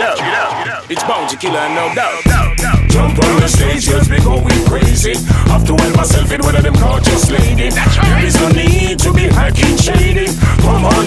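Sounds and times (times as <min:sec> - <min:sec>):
pop song breakdown: 0:00.0 - 0:11.0.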